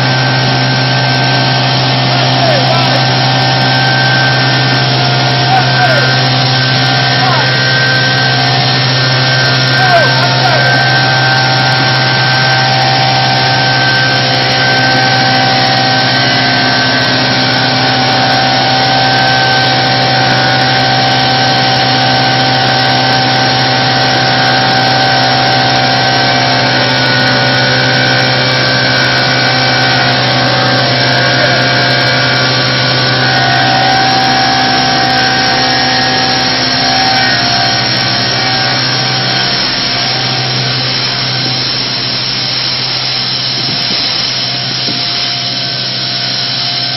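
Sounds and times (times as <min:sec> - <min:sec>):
grain conveyor drone and whine: 0:00.0 - 0:46.9.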